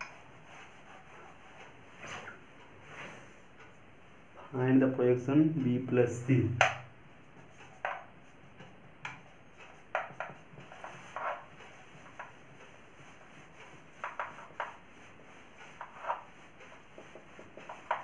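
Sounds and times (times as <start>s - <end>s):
marker pen on whiteboard: 0.0s - 3.8s, 5.6s - 18.0s.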